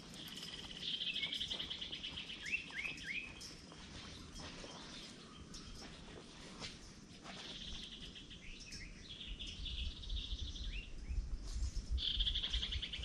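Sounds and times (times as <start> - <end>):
bird chirps: 0.0 - 13.0
faint outdoor background: 0.0 - 13.0.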